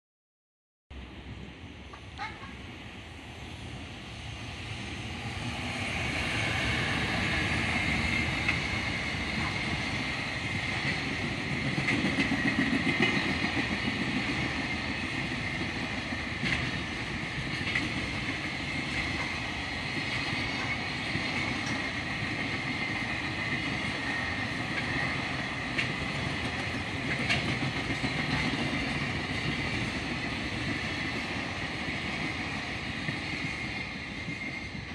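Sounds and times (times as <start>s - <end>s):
freight train wheels rumbling on rails: 0.9s - 34.9s.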